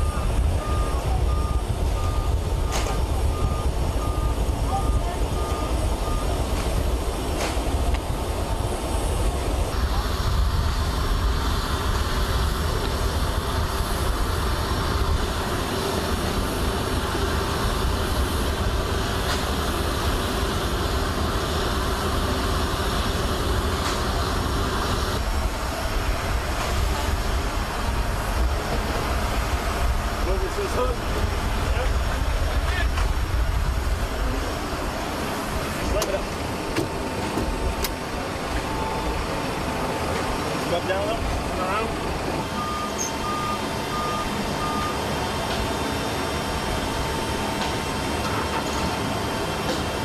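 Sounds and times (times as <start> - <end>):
engine drone with deep rumble: 0.0 - 50.0.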